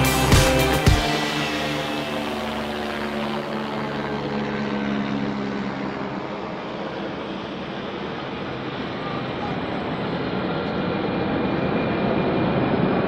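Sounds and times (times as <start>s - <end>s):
vehicle drone: 0.0s - 13.0s.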